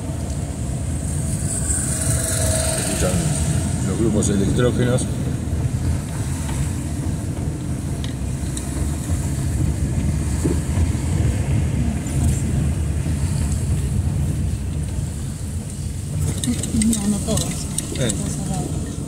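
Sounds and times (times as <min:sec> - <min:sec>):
car driving on wet street: 0:00.0 - 0:19.0.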